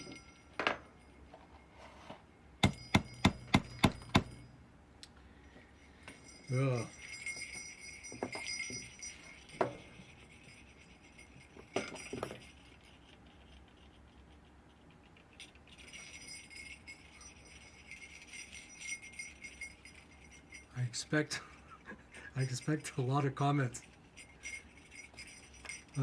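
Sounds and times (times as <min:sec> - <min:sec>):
sleigh bells jingling: 0:00.0 - 0:01.1, 0:05.7 - 0:26.0.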